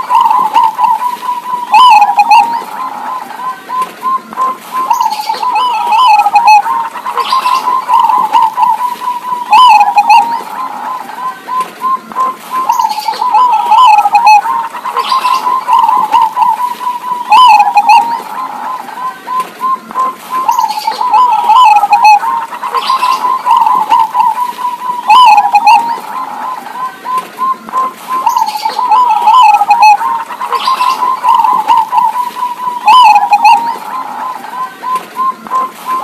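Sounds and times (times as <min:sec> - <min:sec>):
doves cooing: 0:00.0 - 0:36.0.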